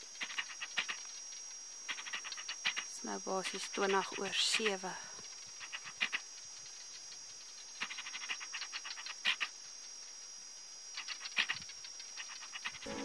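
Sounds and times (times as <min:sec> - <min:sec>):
insects droning: 0:00.0 - 0:13.0
geckos clicking chirps: 0:00.2 - 0:09.6, 0:10.9 - 0:12.9.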